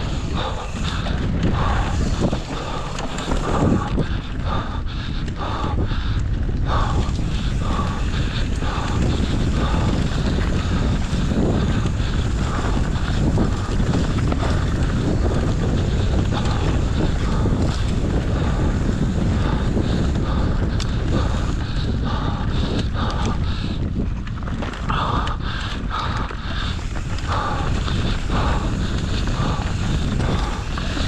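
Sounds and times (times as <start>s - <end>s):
bike tyre noise on dirt: 0.0s - 31.0s
wind buffeting microphone: 0.0s - 31.0s.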